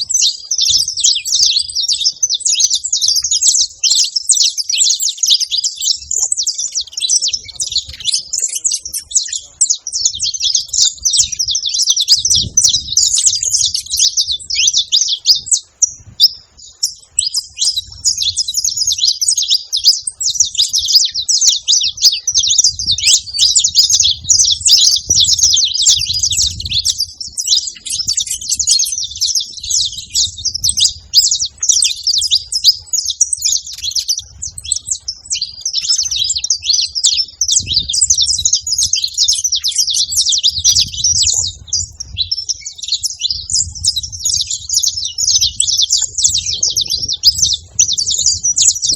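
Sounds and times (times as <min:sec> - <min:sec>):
finches chirping: 0:00.0 - 0:48.9.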